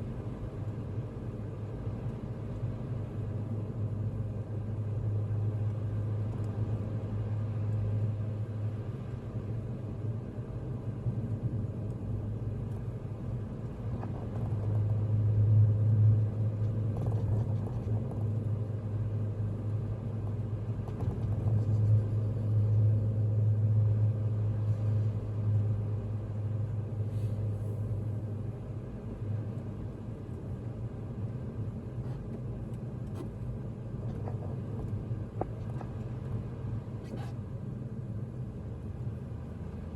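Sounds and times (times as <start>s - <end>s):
engine and road noise: 0.0s - 39.9s.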